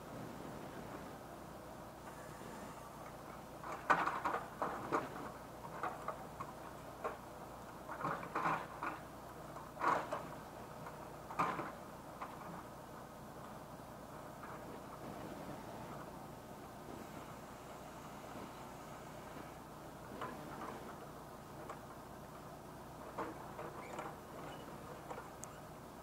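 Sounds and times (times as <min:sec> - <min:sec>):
faint background noise: 0:00.0 - 0:26.0.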